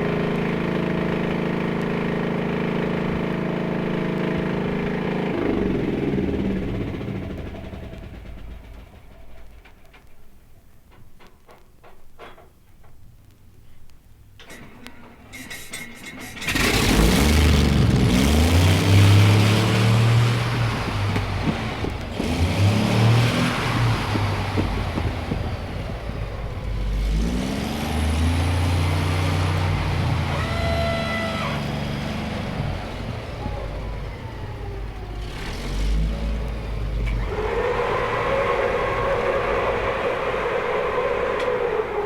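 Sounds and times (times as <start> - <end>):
tank engine revving: 0.0 - 10.1, 14.4 - 42.0.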